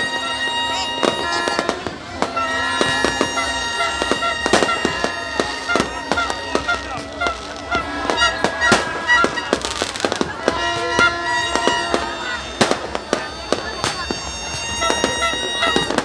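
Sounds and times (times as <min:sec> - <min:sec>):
fireworks bangs and crackles: 0:00.0 - 0:16.0
horns sounding: 0:00.0 - 0:16.0.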